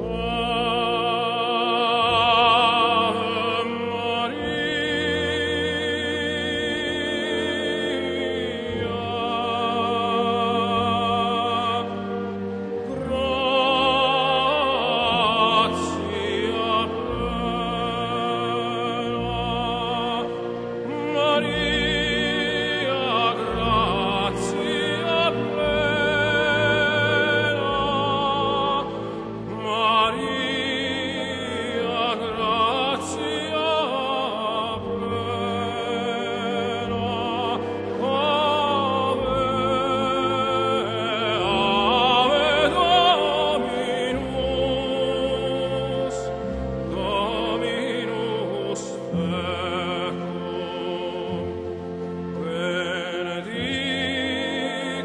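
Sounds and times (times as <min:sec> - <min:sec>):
operatic singer with vibrato: 0:00.0 - 0:55.0
sustained orchestral accompaniment: 0:00.0 - 0:55.0.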